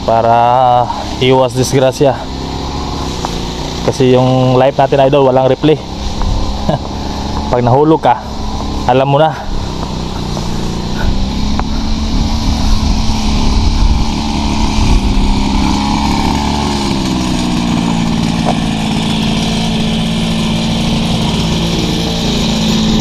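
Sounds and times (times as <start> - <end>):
engine droning: 0.0 - 23.0.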